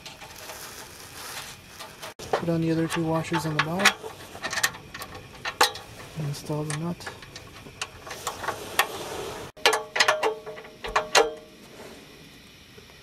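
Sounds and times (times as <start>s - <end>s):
nut and washers clinking: 0.0s - 8.9s, 9.5s - 11.5s.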